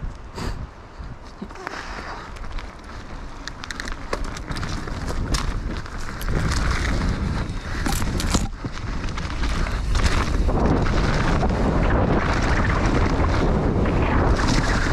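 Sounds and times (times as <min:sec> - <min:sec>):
bike clicks and rattles: 0:01.1 - 0:14.9
tyres rolling on loose dirt: 0:01.1 - 0:14.9.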